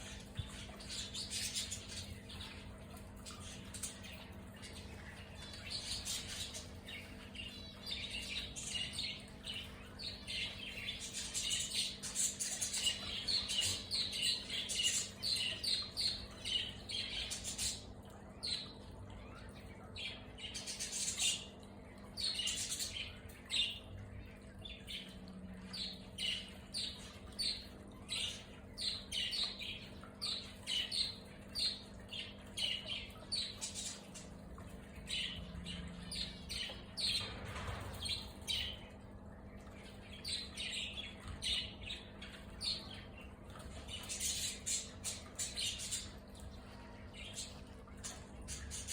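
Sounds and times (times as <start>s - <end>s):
birds chirping and squawking: 0.0s - 48.9s
faint steady hum: 0.0s - 48.9s.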